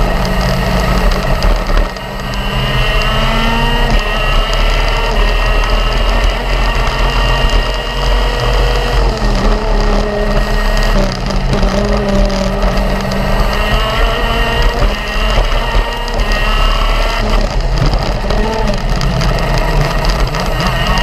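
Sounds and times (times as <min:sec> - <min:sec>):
go-kart engine at full throttle: 0:00.0 - 0:21.0.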